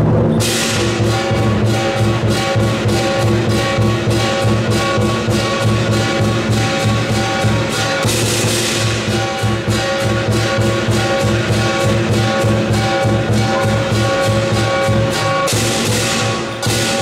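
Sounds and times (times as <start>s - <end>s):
big drum beating: 0.0s - 17.0s
crashing cymbals: 0.0s - 17.0s
ringing gong: 0.1s - 17.0s.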